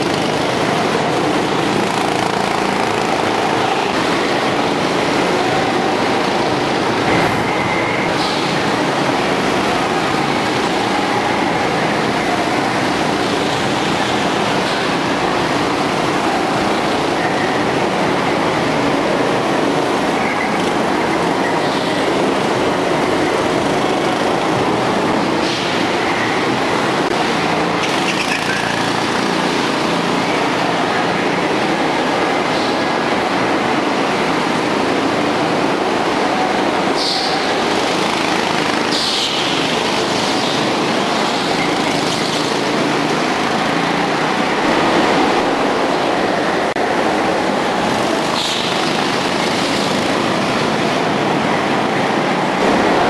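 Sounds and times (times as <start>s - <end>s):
go-kart engines droning: 0.0s - 53.0s.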